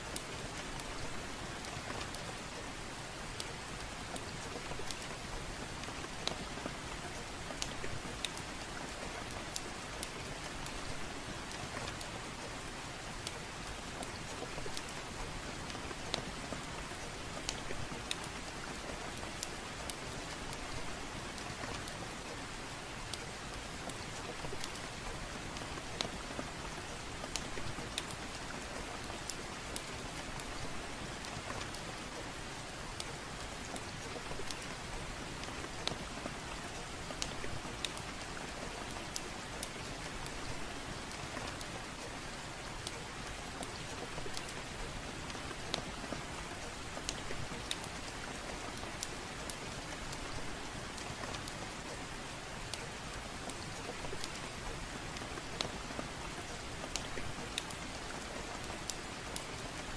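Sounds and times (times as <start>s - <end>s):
soft steady rain: 0.0s - 59.9s
wood fire crackling: 0.0s - 59.9s.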